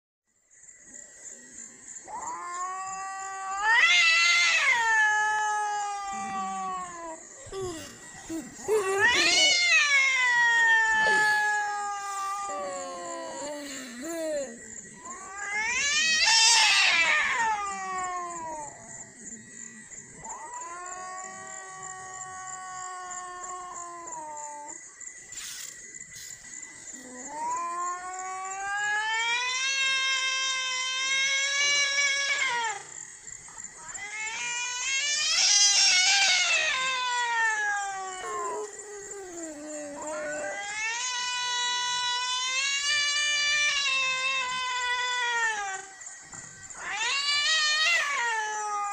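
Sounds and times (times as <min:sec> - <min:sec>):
cats yowling: 0:02.0 - 0:18.8, 0:20.2 - 0:24.8, 0:26.9 - 0:33.0, 0:33.7 - 0:46.0, 0:46.7 - 0:48.9.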